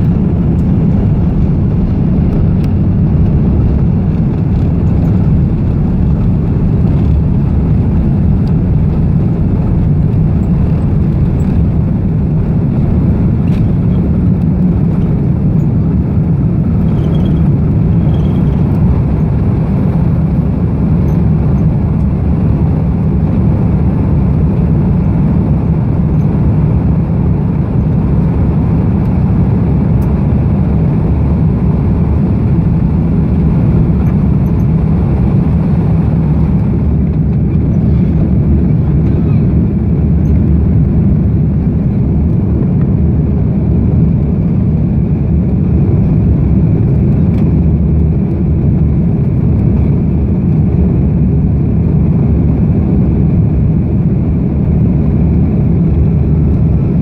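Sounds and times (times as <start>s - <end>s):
jet engines at takeoff power: 0.0s - 57.0s.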